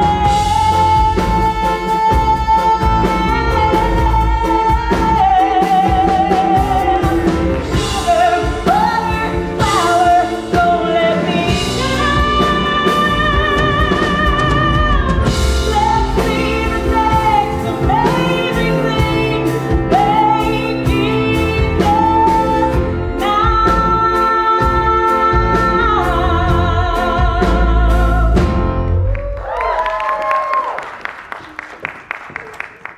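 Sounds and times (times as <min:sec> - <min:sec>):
woman singing: 0:00.0 - 0:28.7
band accompaniment: 0:00.0 - 0:32.9.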